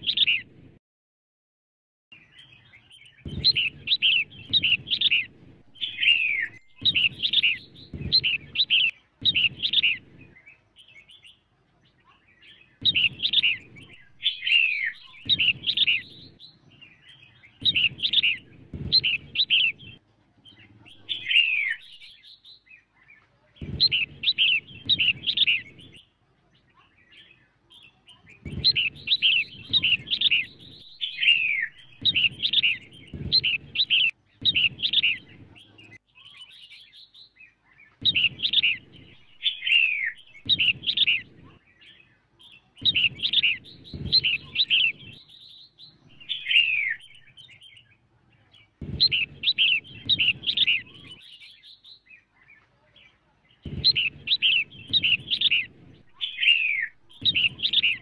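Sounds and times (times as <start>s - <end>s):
bird chirping song: 0.0s - 0.8s, 2.1s - 58.0s.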